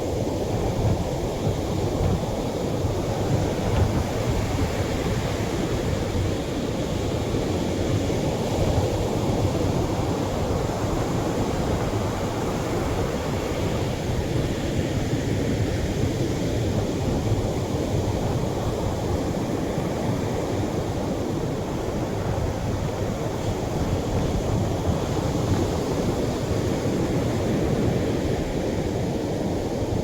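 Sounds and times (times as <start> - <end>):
surf breaking on a beach: 0.0 - 30.0.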